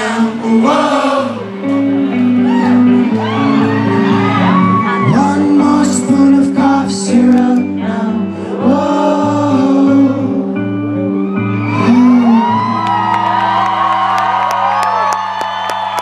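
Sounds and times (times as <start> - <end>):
person singing: 0.0 - 13.6
indie rock band playing: 0.0 - 15.3.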